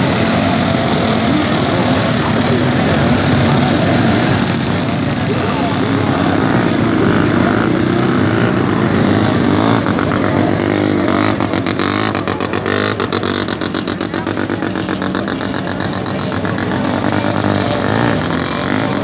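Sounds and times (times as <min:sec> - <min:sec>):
rapid engine popping: 0:00.0 - 0:19.0
snowmobiles driving past: 0:00.0 - 0:19.0.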